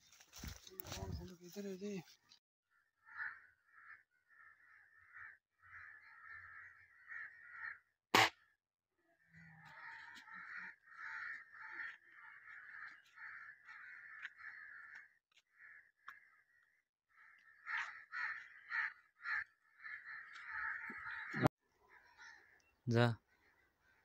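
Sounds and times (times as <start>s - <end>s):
birds calling: 0.0s - 8.5s, 9.2s - 24.0s.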